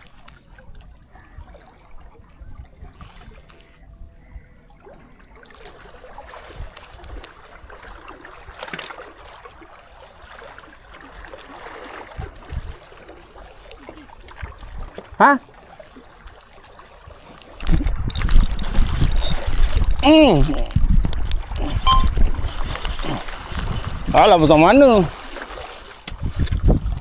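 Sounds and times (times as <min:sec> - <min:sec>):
water lapping along shore: 0:00.0 - 0:27.0.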